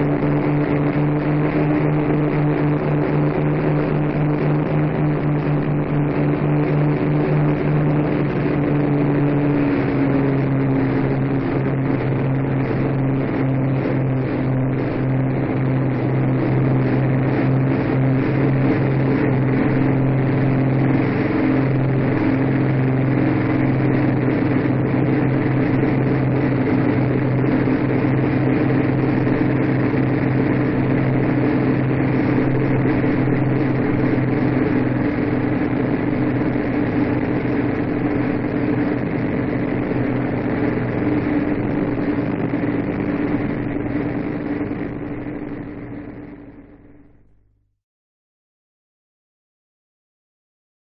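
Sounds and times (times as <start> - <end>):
aircraft engines droning: 0.0 - 47.4.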